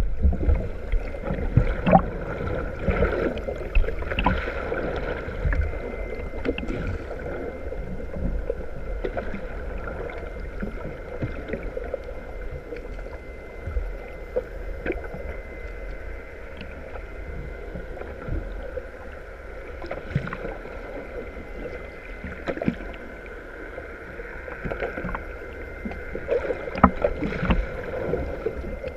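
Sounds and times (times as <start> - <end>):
faint steady tones: 0.0 - 28.9
underwater low rumble: 0.0 - 28.9.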